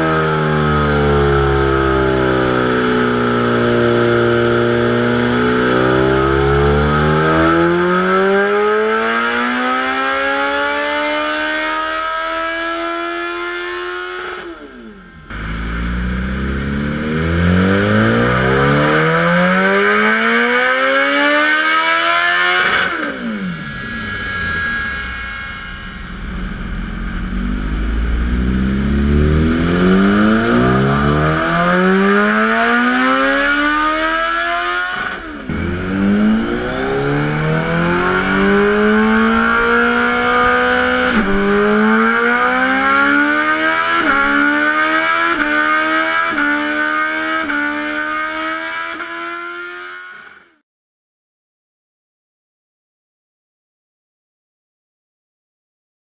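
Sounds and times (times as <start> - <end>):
motorcycle engine accelerating: 0.0 - 50.6.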